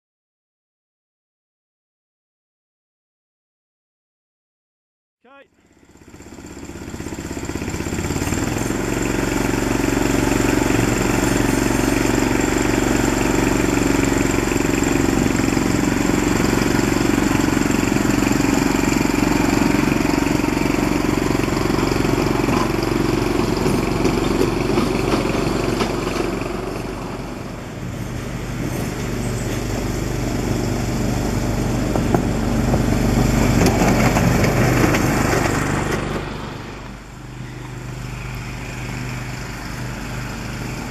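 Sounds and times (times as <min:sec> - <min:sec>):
miniature locomotive engine running: 0:05.6 - 0:40.9.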